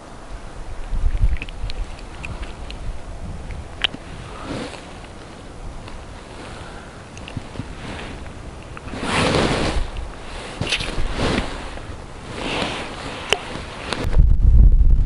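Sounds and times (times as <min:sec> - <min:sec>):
wind gusting against microphone: 0:00.0 - 0:15.0.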